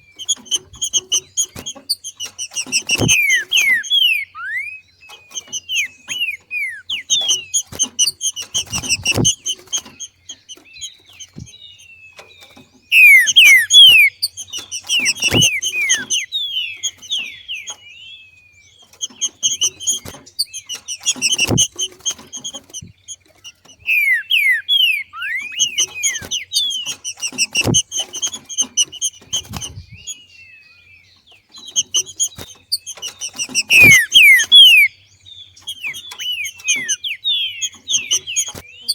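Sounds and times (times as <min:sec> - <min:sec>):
bird downward-sweeping chirps: 0:00.0 - 0:11.6, 0:12.9 - 0:17.8, 0:19.0 - 0:30.2, 0:31.6 - 0:38.9.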